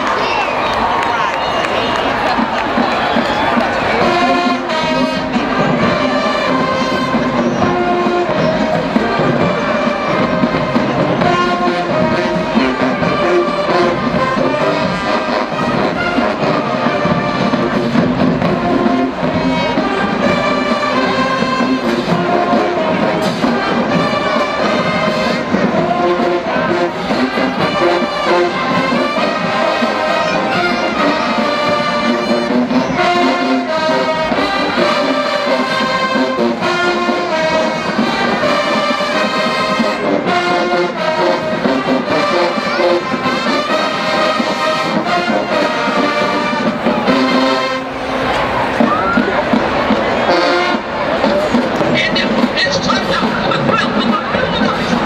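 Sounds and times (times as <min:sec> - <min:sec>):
brass band playing: 0:00.0 - 0:55.0
drums: 0:01.5 - 0:55.0.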